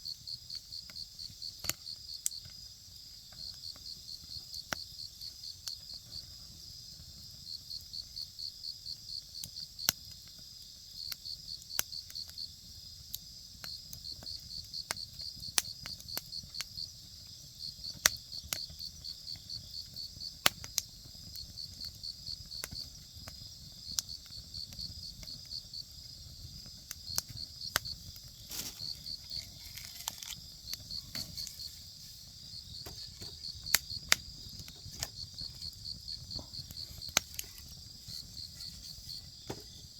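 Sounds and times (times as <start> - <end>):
insects chirping: 0.0 - 39.9
campfire crackling and popping: 0.2 - 39.9.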